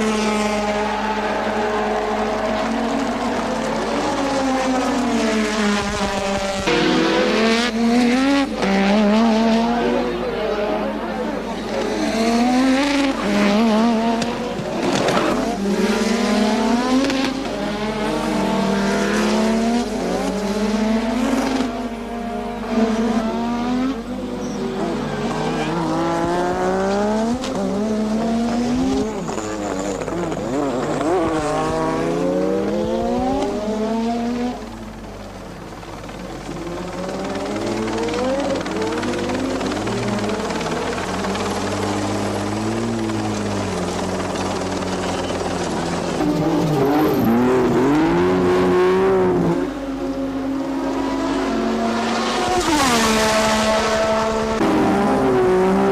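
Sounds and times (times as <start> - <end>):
racing car engines passing: 0.0 - 55.9.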